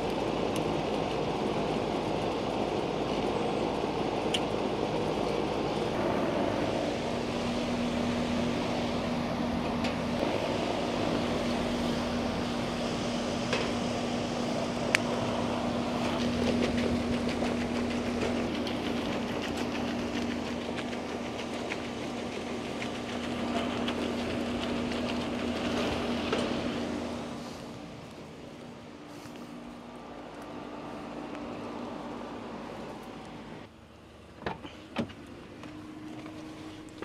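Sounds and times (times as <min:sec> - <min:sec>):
air conditioner unit running: 0:00.0 - 0:37.0
steady hum: 0:00.0 - 0:37.0.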